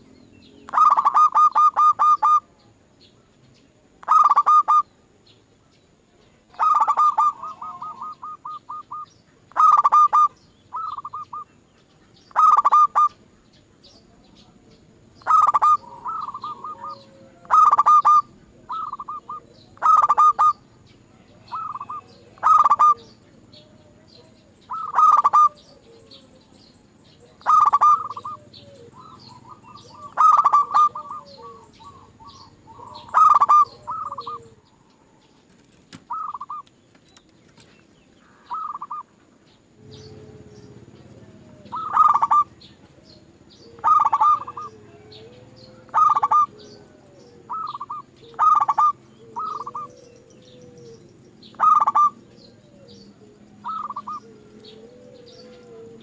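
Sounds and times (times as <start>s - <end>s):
dove cooing: 0.0s - 2.7s, 4.0s - 4.9s, 6.5s - 11.6s, 12.2s - 35.4s, 36.0s - 36.7s, 38.2s - 56.0s.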